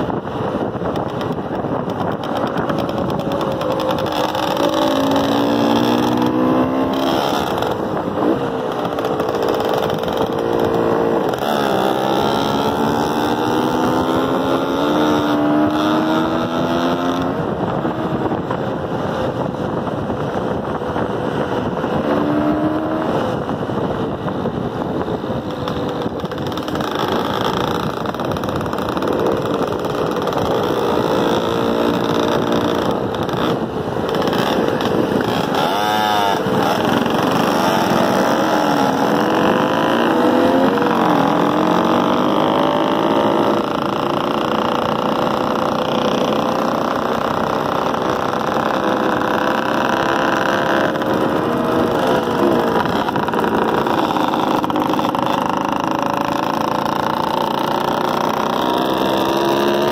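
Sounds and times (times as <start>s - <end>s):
motorcycle engines running: 0.0s - 59.9s.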